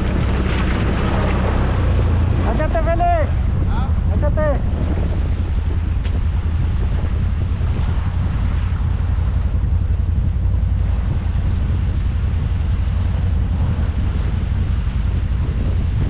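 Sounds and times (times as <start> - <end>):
atv engine running: 0.0 - 16.0
wind rumbling on microphone: 0.0 - 16.0.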